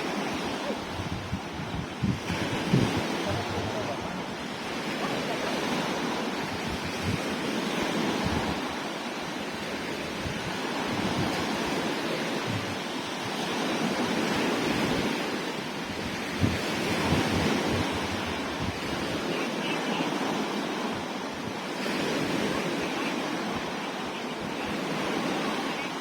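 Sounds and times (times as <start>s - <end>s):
sea waves washing on shore: 0.0s - 26.0s
wind buffeting microphone: 0.0s - 26.0s.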